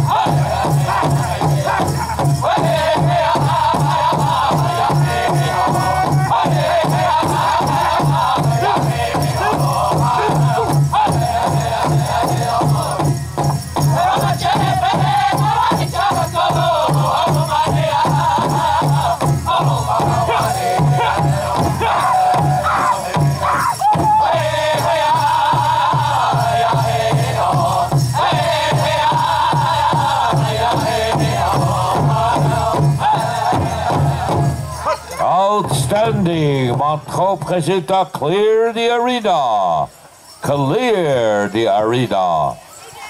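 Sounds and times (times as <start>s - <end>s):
steady beat on large drum: 0.0s - 34.6s
group singing in high voices: 0.0s - 35.5s.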